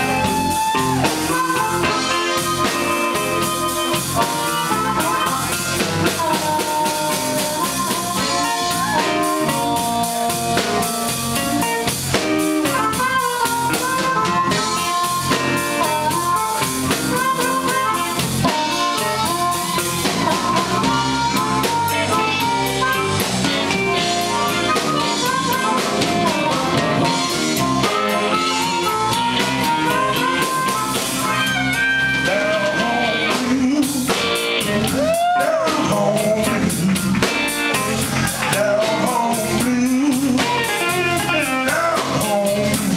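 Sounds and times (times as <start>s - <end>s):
amplified harmonica: 0.0s - 38.4s, 39.0s - 42.6s
drum kit: 0.0s - 42.9s
electric bass: 0.0s - 42.9s
electric guitars: 0.0s - 42.9s.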